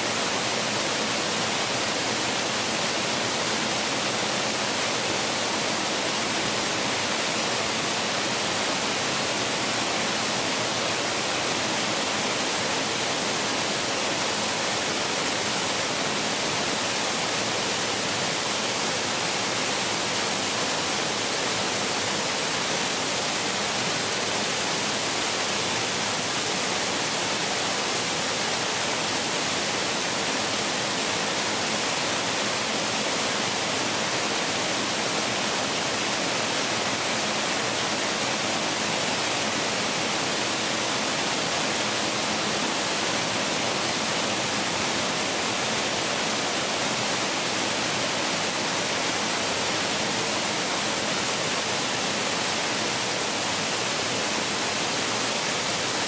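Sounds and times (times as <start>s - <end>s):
waterfall pouring over rocks: 0.0s - 56.0s.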